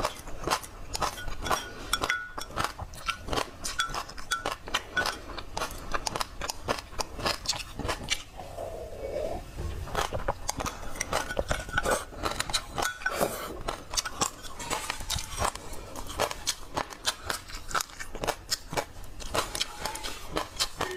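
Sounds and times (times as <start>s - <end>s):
chewing and crunching: 0.0s - 20.9s.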